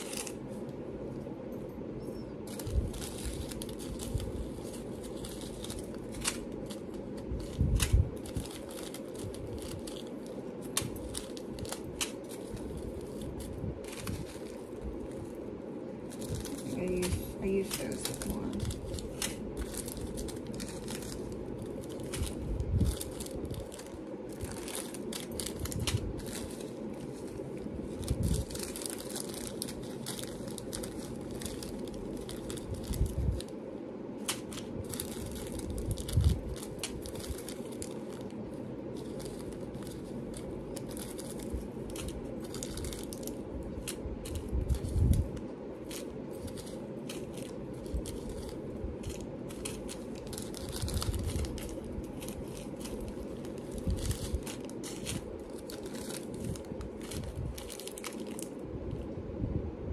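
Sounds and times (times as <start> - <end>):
plastic bags crinkling: 0.0 - 0.7, 2.4 - 58.7
steady low hum: 0.0 - 59.9.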